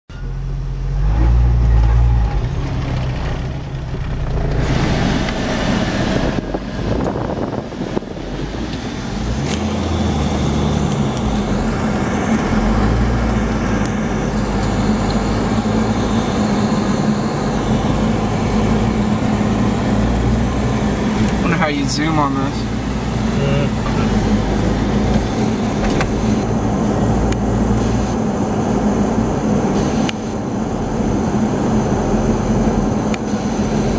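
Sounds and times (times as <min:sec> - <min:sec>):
off-road vehicle engine rumble: 0:00.1 - 0:33.9.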